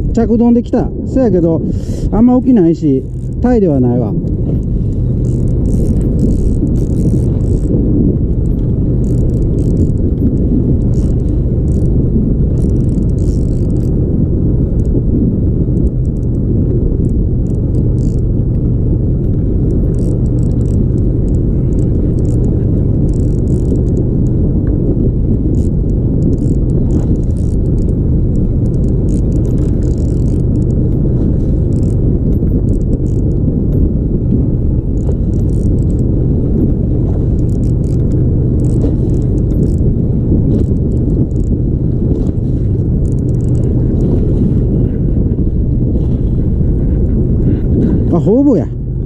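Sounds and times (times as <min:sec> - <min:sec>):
boat engine low rumble: 0:00.0 - 0:49.0.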